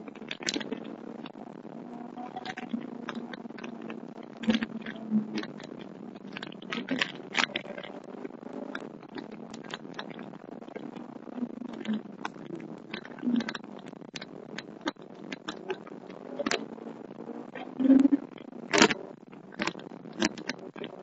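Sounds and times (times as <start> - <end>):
sharp clicks and knocks: 2.3 - 16.7, 18.3 - 21.0.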